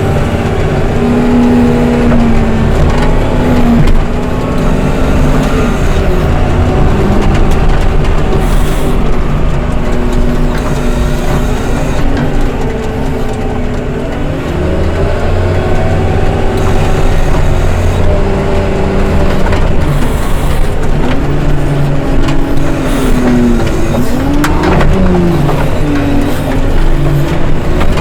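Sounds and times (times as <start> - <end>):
heavy diesel engine revving: 0.0 - 28.0.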